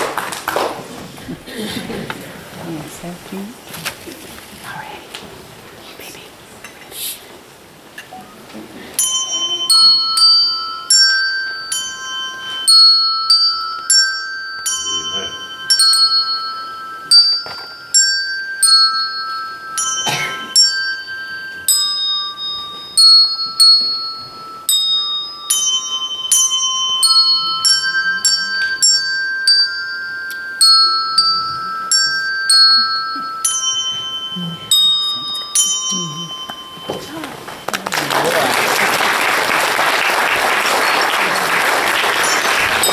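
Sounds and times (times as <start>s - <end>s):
handbells playing a melody: 8.2s - 42.9s.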